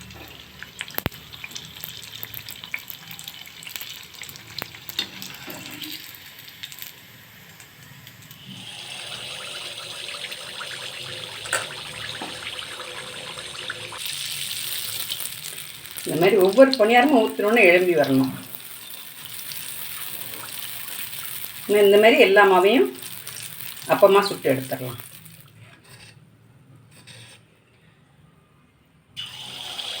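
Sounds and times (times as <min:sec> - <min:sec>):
batter sizzling in hot oil: 0:00.0 - 0:26.0, 0:29.2 - 0:30.0.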